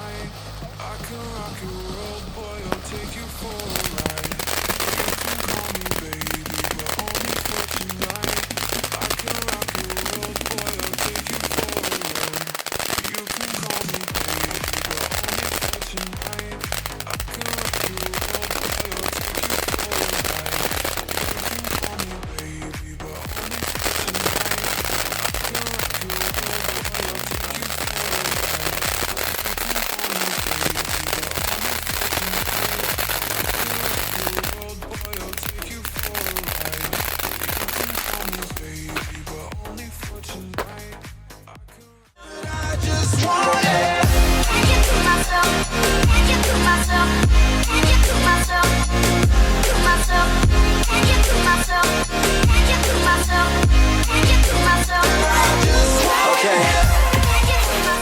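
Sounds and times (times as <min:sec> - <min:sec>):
fireworks crackling: 0:00.0 - 0:41.5, 0:42.7 - 0:58.0
music playing: 0:00.0 - 0:58.0.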